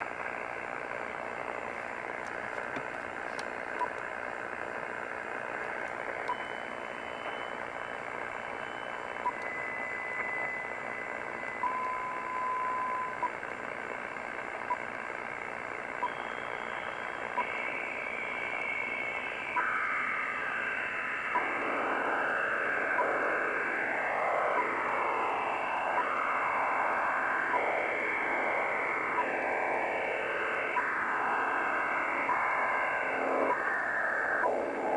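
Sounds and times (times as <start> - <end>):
radio static hiss: 0.0 - 34.9.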